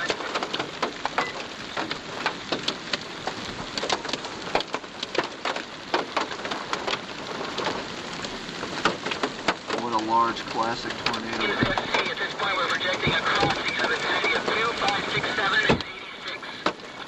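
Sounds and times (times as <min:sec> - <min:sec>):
rain falling: 0:00.0 - 0:17.0
sharp taps of raindrops: 0:00.0 - 0:17.0.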